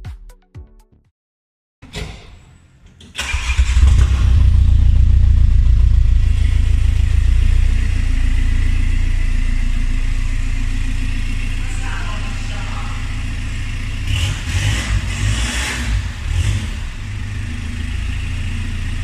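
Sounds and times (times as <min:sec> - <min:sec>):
car engine starting and running: 0:02.9 - 0:19.0.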